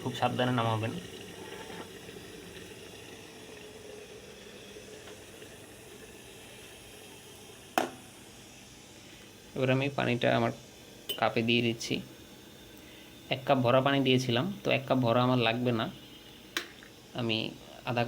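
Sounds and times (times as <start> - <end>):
kettle water bubbling and hissing: 0.0 - 18.0.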